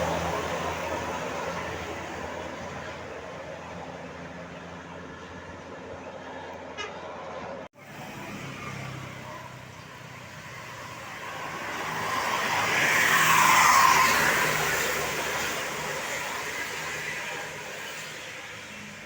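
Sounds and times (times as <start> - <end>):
vehicle passing by: 0.0 - 6.6, 7.2 - 19.0.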